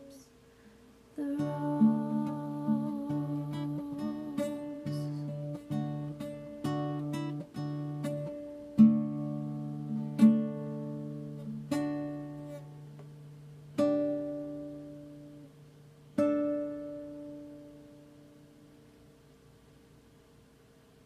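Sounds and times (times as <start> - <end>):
classical guitar chords ringing: 1.2 - 19.0.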